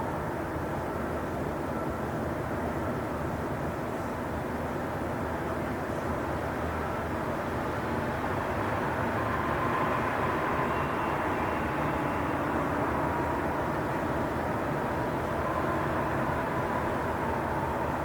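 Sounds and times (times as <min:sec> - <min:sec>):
faint whine: 0:00.0 - 0:18.0.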